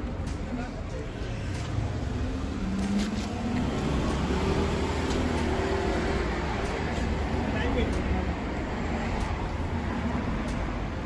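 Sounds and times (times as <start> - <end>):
low rumble of vehicle engines: 0.0 - 11.0.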